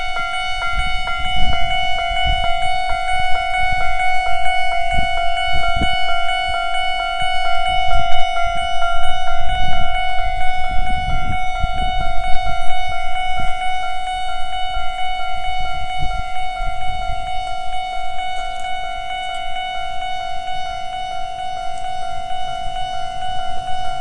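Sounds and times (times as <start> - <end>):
level crossing warning bell: 0.0 - 24.0
wind buffeting microphone: 0.0 - 24.0.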